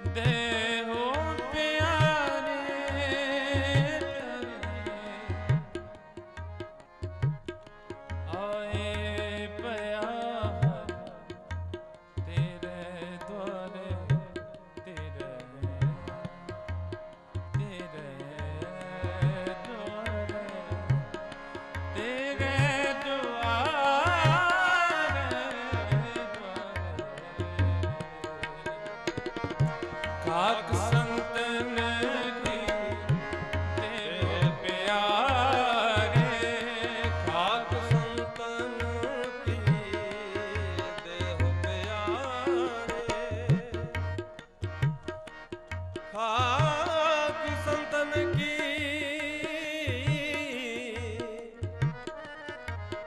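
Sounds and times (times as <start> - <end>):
man singing ornamented vocal runs: 0.0 - 6.2, 7.9 - 11.4, 17.2 - 44.2, 46.1 - 52.7
sustained harmonium chords: 0.0 - 53.0
tabla beat: 0.0 - 53.0.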